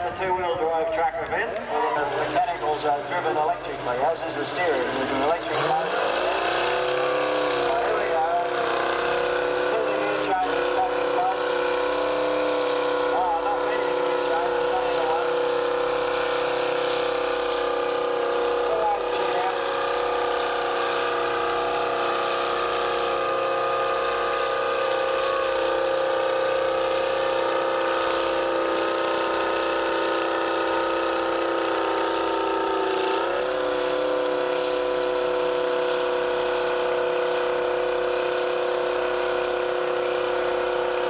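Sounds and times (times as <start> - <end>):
tractor engine running under load: 0.0 - 41.0.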